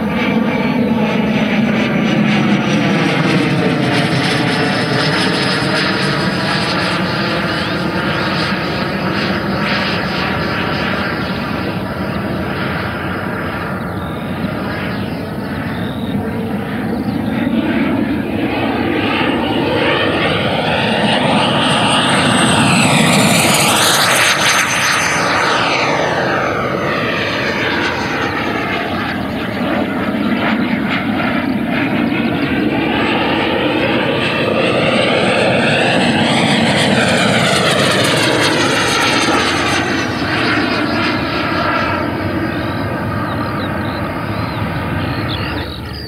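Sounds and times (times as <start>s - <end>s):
rc jet fan whine: 0.0s - 46.0s.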